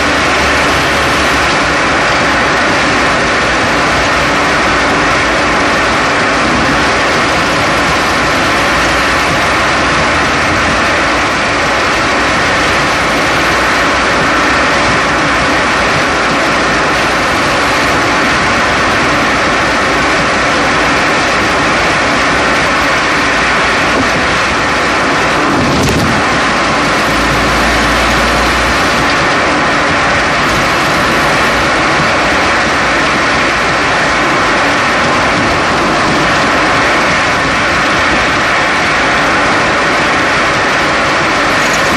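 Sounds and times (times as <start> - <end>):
road and tyre noise: 0.0 - 41.9.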